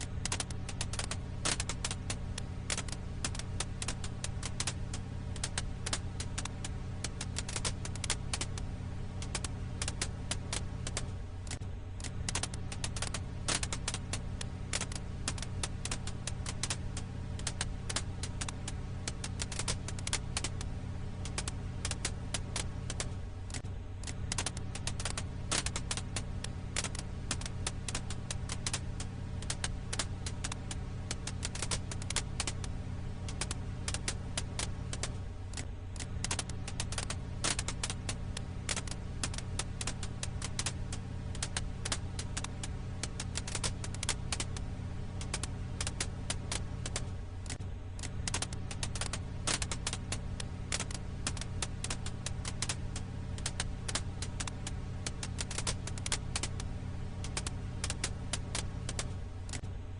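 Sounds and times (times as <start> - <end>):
firewood crackling: 0.0 - 59.7.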